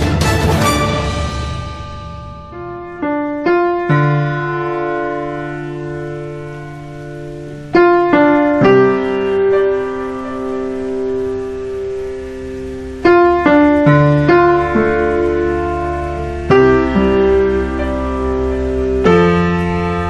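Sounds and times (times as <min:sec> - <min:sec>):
keyboard chords: 0:00.0 - 0:20.0.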